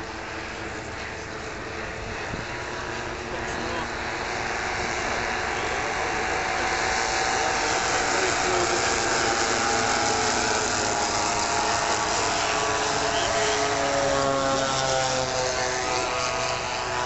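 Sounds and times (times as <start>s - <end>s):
model aircraft engines droning: 0.0s - 17.0s.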